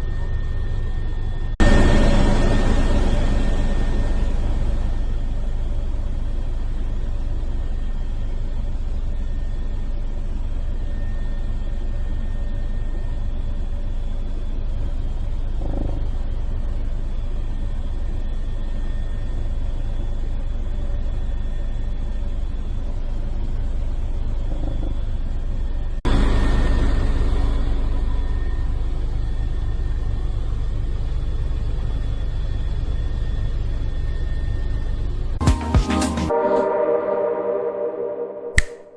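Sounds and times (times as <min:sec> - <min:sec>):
helicopter running: 0:00.0 - 0:36.5.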